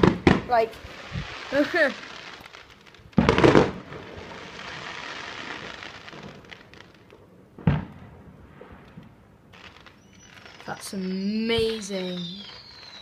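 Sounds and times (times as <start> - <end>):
fireworks banging: 0.0 - 13.0
fireworks crackling: 0.0 - 13.0.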